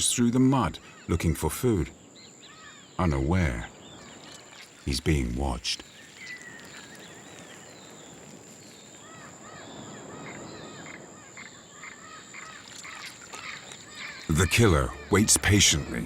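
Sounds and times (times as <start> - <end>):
faint hiss: 1.6 - 16.0
bird chirping: 1.9 - 16.0.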